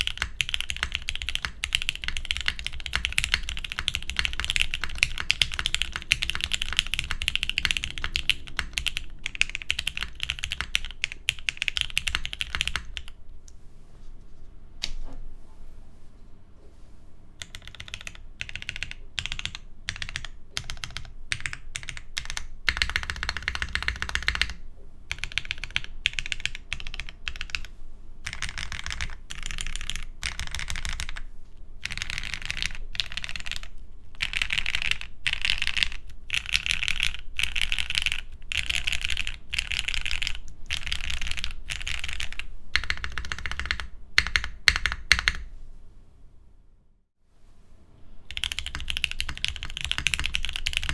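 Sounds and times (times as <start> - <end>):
mechanical keyboard typing: 0.0 - 13.1, 17.4 - 31.2, 31.8 - 45.5, 48.3 - 50.9.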